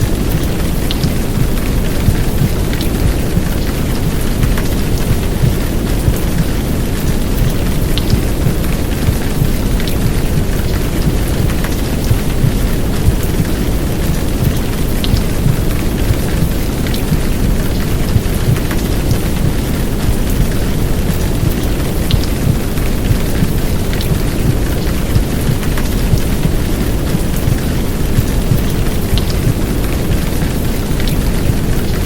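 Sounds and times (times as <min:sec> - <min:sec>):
heavy rain downpour: 0:00.0 - 0:32.0
rain drop ticks: 0:00.0 - 0:32.0.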